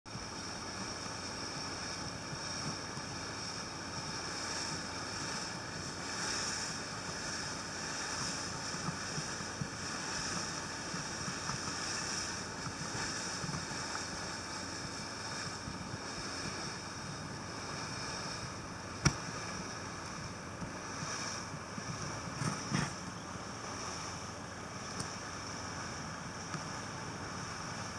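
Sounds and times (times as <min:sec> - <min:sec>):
faint motor hum: 0:00.1 - 0:27.9
wind and water rushing past hull: 0:00.1 - 0:27.9.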